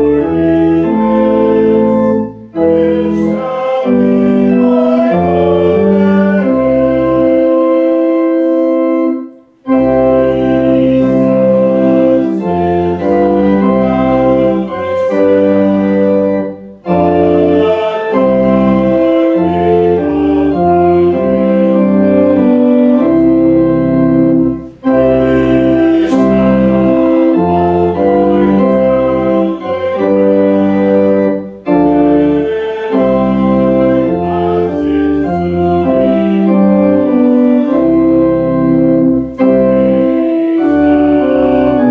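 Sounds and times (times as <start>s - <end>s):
organ playing slow chords: 0.0s - 41.9s.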